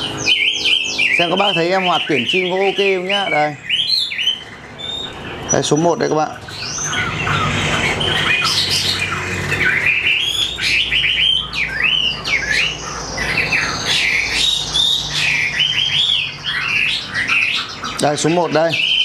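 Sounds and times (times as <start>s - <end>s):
bird singing whistled phrases: 0.0s - 19.0s.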